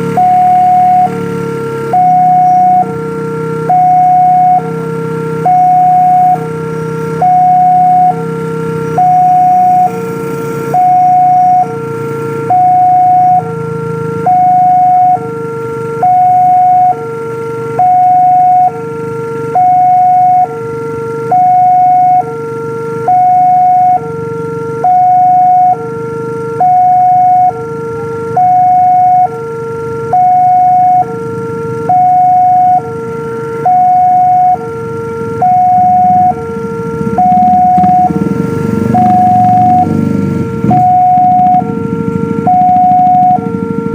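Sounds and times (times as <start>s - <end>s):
level-crossing two-tone alarm: 0.0s - 43.9s.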